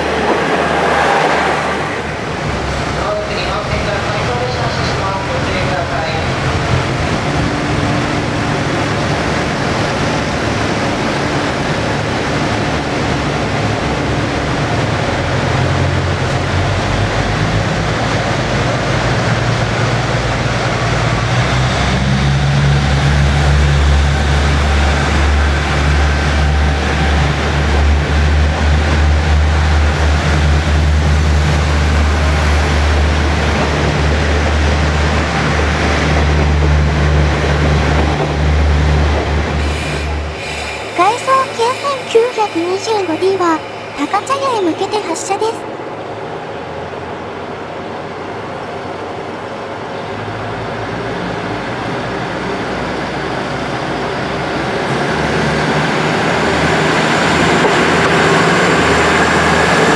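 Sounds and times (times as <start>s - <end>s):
railcar diesel engines droning: 0.0s - 59.9s.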